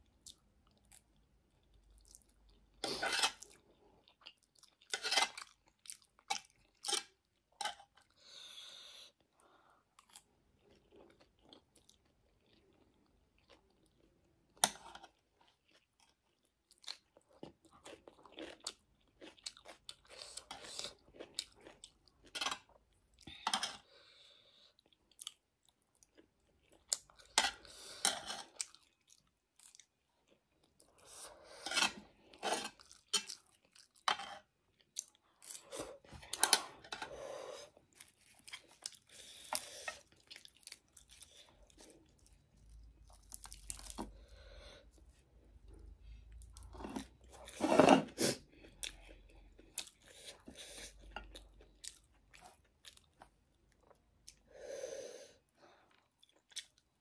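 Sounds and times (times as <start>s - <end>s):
person chewing and crunching: 0.0s - 8.2s, 9.8s - 54.5s, 55.7s - 57.0s.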